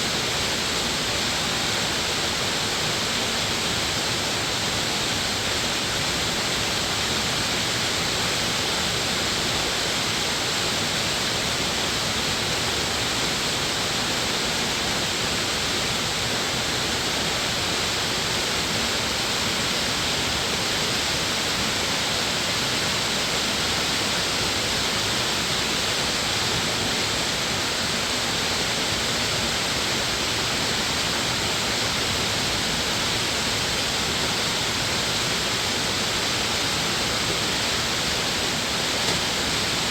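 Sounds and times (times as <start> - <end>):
stream water rushing over rapids: 0.0 - 39.9.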